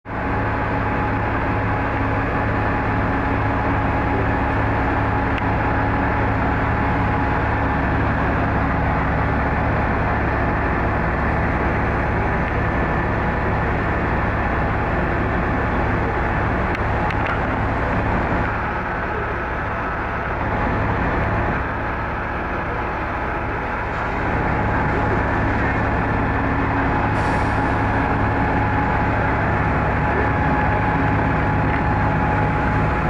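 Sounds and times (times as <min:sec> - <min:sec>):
bus engines droning: 0:00.0 - 0:33.0
tyres on wet road: 0:00.0 - 0:33.0.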